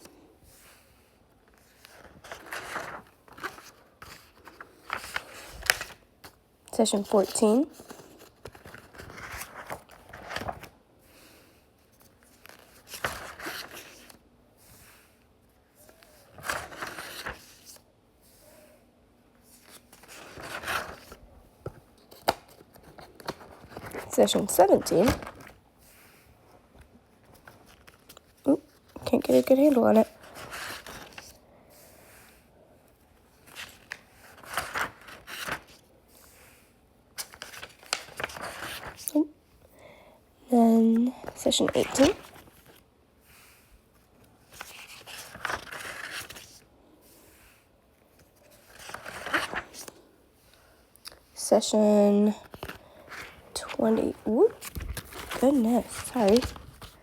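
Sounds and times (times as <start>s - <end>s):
notebook pages rustling: 0.0s - 18.8s, 19.4s - 39.3s, 40.6s - 57.0s.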